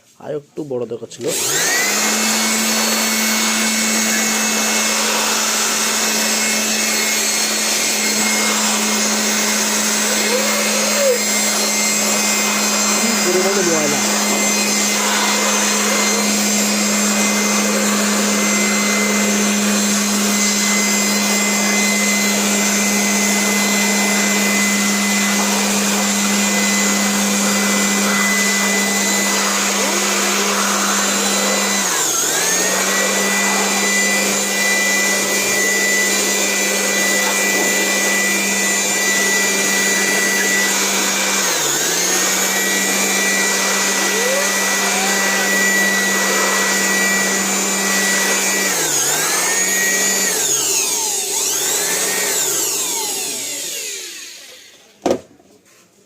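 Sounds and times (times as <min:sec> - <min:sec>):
electric blower motor whining: 0:01.2 - 0:55.4.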